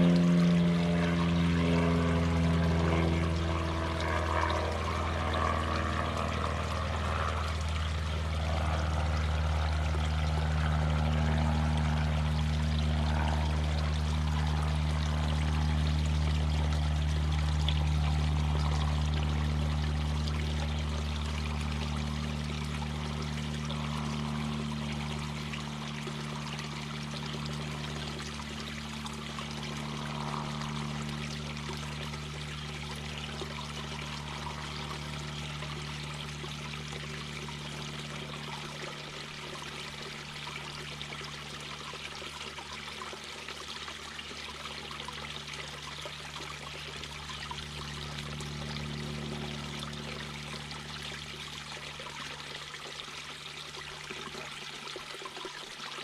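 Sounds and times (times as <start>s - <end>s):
low steady drone: 0.0s - 55.3s
brook babbling over rocks: 0.0s - 56.0s.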